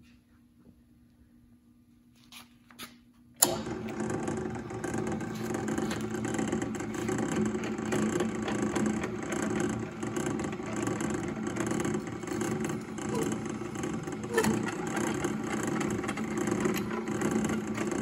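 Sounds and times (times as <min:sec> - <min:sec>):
drill press motor hum: 0:03.4 - 0:18.0.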